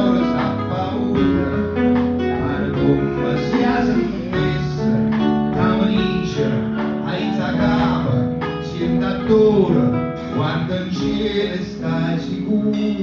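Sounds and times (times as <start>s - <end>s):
guitar: 0.0s - 13.0s
live band playing a song: 0.0s - 13.0s.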